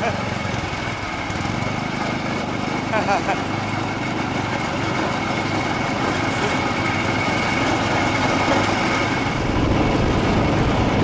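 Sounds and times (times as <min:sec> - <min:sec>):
garden tractor engine: 0:00.0 - 0:11.0.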